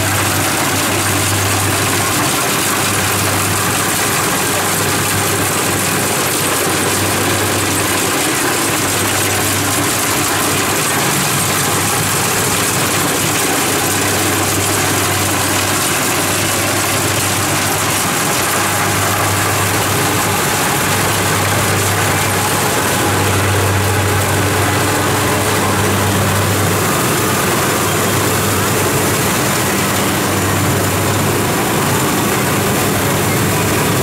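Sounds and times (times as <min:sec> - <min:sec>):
diesel engine humming: 0:00.0 - 0:34.0
machinery hissing: 0:00.0 - 0:34.0.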